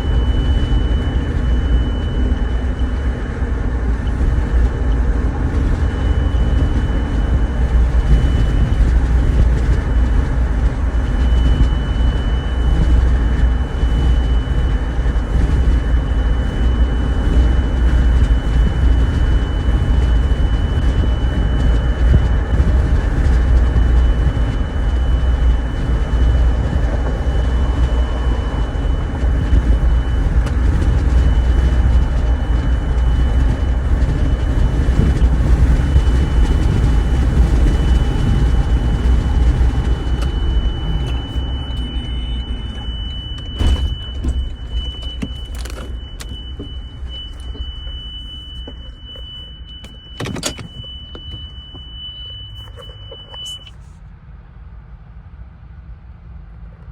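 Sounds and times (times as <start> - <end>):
truck road rumble: 0.0 - 52.8
steady high-pitched tone: 0.0 - 53.8.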